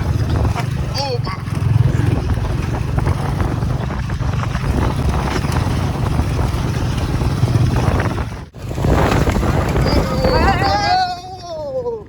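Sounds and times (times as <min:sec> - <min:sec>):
motorcycle engine rumble: 0:00.0 - 0:12.0
wind noise on microphone: 0:00.0 - 0:12.0.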